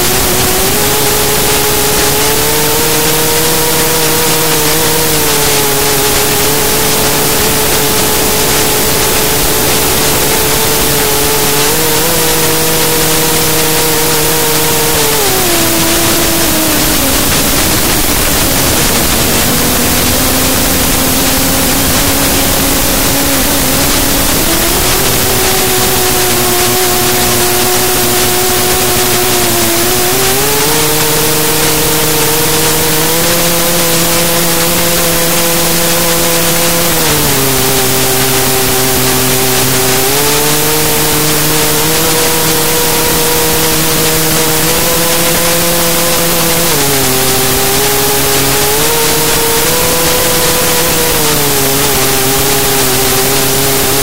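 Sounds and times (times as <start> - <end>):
drone motors whining: 0.0 - 54.0
loud steady hiss: 0.0 - 54.0.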